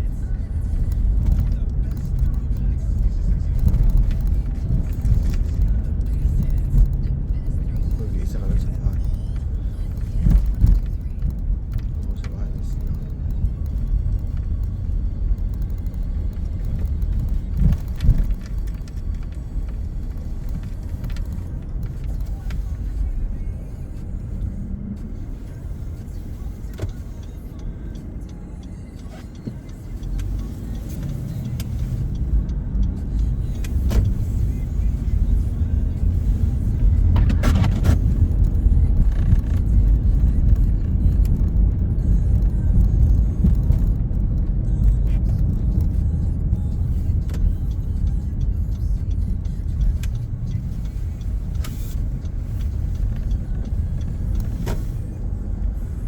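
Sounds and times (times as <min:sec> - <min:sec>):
road and engine noise in car: 0:00.0 - 0:56.0.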